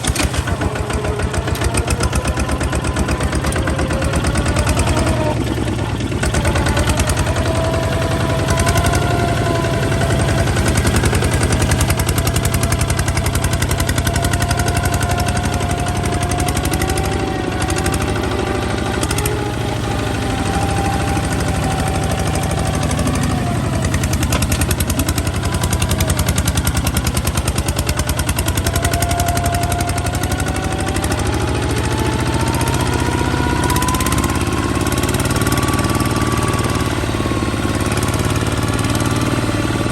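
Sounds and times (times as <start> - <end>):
tractor diesel engine running: 0.0 - 39.9
whining tone: 0.0 - 39.9.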